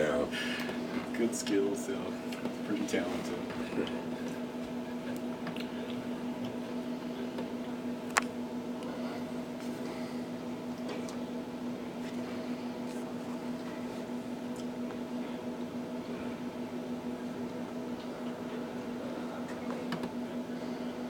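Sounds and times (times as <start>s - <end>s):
steady hall hum: 0.0s - 21.0s.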